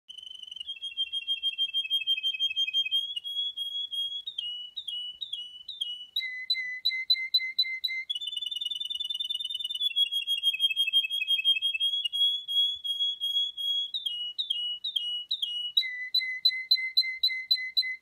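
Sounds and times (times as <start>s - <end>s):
canary singing trills: 0.1s - 18.0s.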